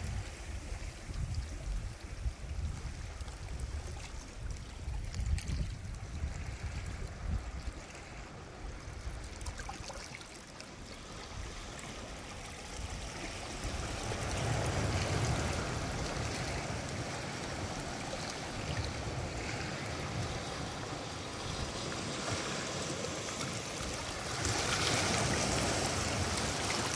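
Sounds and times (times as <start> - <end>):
sea waves washing over rocks: 0.0 - 26.9.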